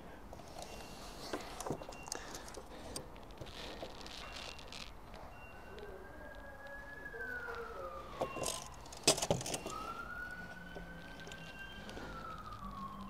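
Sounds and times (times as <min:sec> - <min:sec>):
faint siren wailing: 0:00.0 - 0:13.0.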